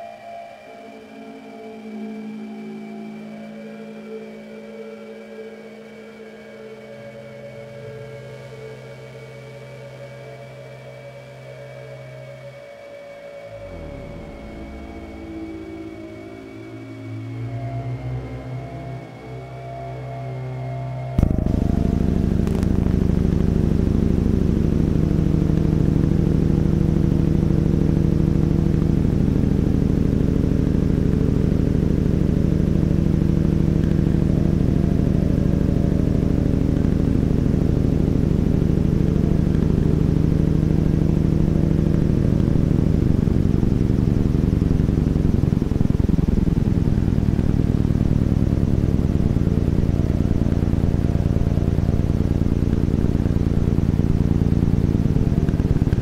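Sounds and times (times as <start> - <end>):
low electronic drone music: 0.0 - 56.0.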